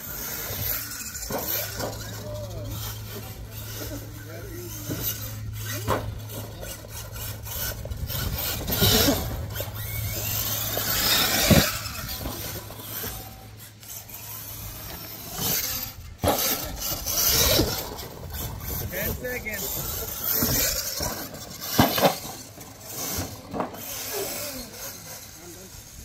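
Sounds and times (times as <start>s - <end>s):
toy truck drivetrain and tyre noise: 0.0s - 26.0s.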